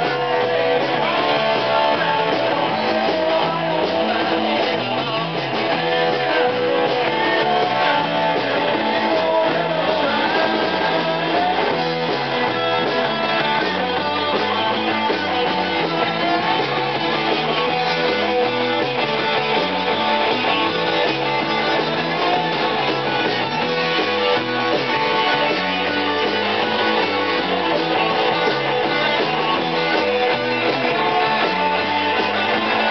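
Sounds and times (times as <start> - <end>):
bass guitar line: 0.0 - 32.9
electric guitar: 0.0 - 32.9.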